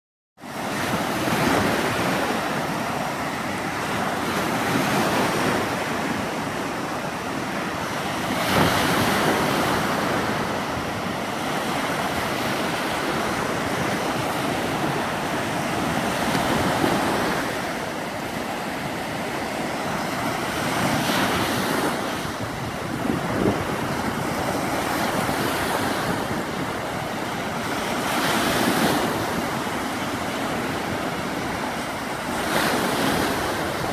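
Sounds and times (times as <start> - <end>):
waves breaking on sandy shore: 0.4 - 33.9.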